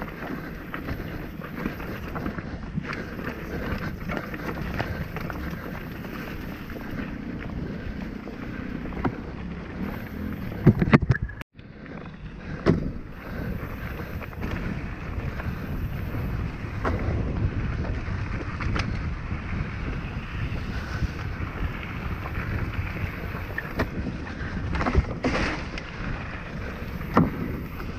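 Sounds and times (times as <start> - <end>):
bike tyre noise: 0.0 - 27.9
wind rushing over microphone: 0.0 - 27.9
bike knocks and rattles: 0.1 - 11.4, 12.4 - 20.0, 21.6 - 27.9.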